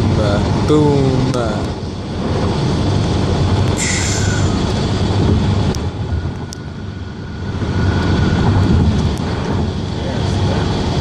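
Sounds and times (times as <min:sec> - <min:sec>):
car driving road noise: 0:00.0 - 0:11.0.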